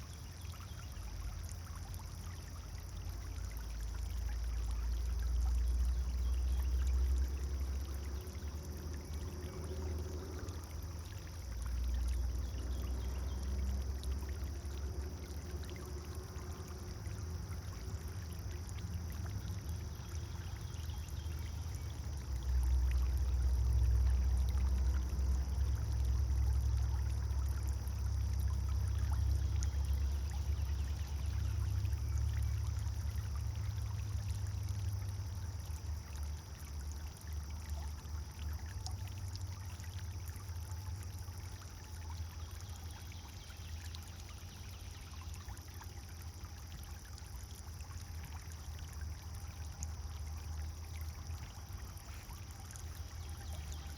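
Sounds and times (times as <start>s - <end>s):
fountain water splashing: 0.0s - 53.9s.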